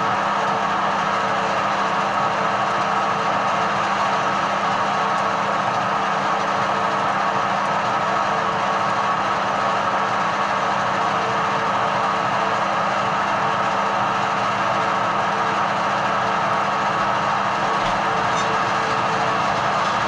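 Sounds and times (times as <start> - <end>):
metal lathe humming: 0.1 - 20.0.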